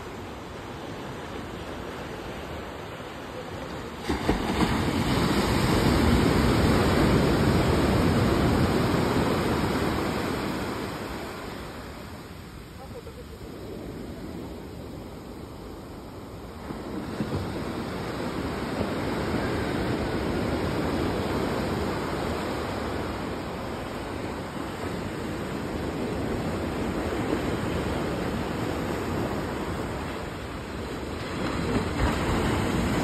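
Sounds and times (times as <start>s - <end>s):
surf washing up sandy beach: 0.0s - 33.0s.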